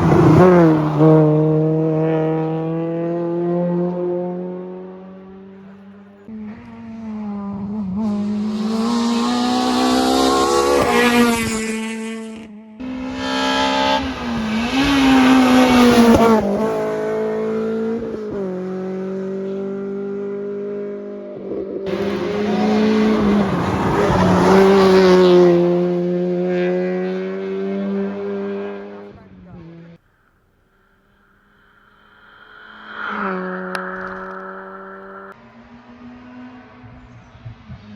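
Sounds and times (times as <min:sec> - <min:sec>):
rally car engines revving: 0:00.0 - 0:30.0, 0:30.8 - 0:37.9.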